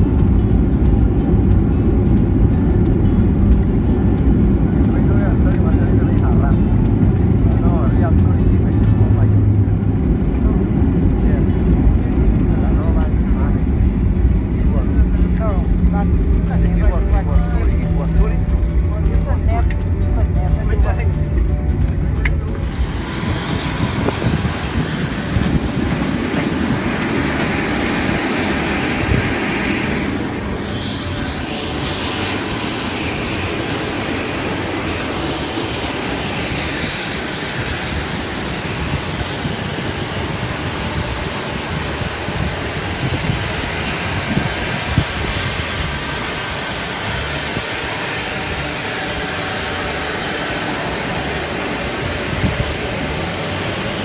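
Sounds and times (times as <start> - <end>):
jet engine high-pitched whine: 0.0 - 54.0
jet engine low rumble: 0.0 - 54.0.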